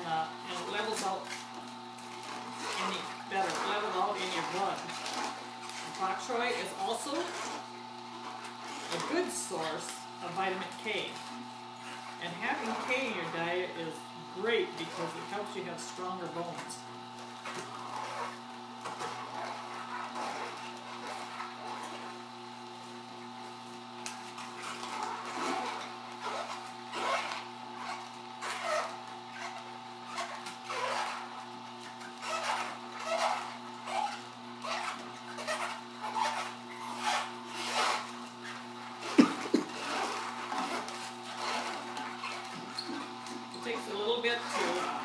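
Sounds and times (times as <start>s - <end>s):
juicer motor hum: 0.0s - 45.0s
vegetables crunching in juicer: 0.0s - 45.0s.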